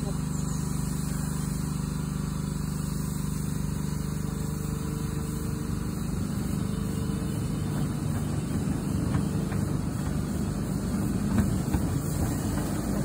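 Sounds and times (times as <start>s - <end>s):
miniature steam locomotive hum: 0.0s - 13.0s.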